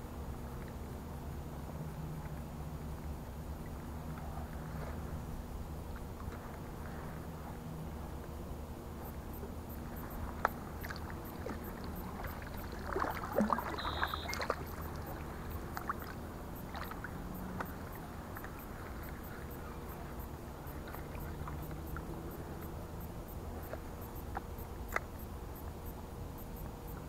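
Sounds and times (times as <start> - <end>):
paddle splashing and dripping: 1.4 - 25.8.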